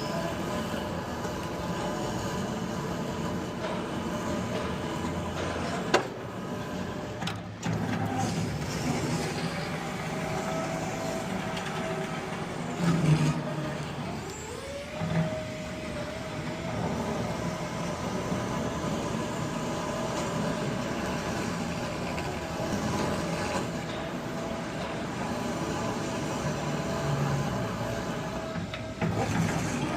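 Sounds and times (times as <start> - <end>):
machinery rumble and hum: 0.0 - 29.9.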